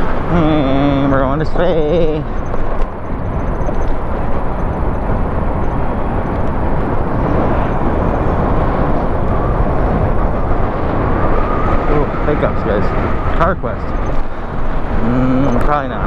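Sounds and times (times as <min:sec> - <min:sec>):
tyre and road noise: 0:00.0 - 0:16.0
wind rushing over microphone: 0:00.0 - 0:16.0.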